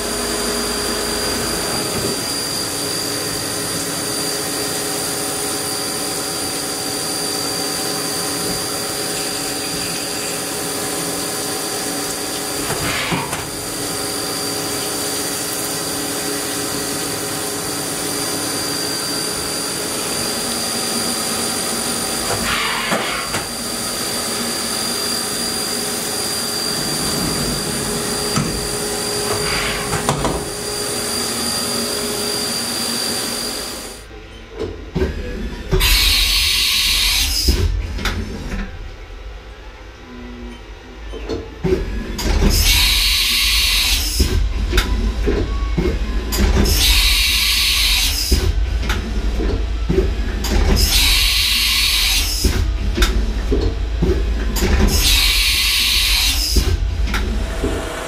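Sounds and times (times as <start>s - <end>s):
machine spindle whine: 0.0s - 34.5s, 39.2s - 58.0s.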